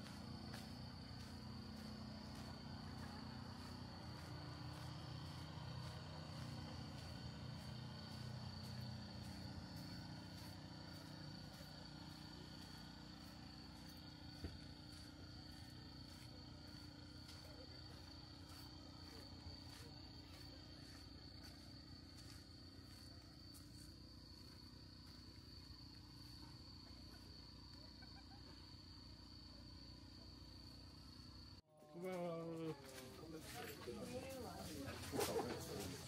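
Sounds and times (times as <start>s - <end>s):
low motor hum: 0.0s - 31.6s
crickets trilling: 0.0s - 36.0s.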